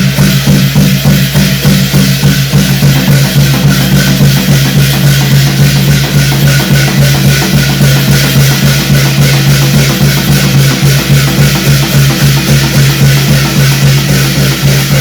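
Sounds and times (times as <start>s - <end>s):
bright metallic hiss: 0.0s - 15.0s
drums beating quick rhythm: 0.0s - 15.0s.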